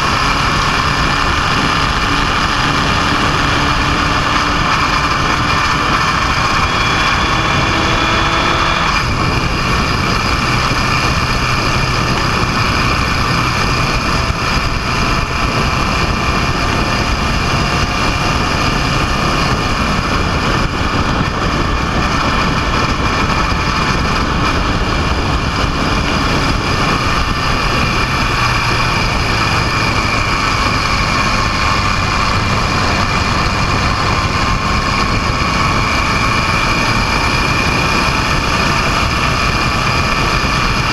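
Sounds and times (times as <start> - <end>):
loud rushing noise: 0.0 - 40.9
vehicle engine running: 0.0 - 40.9.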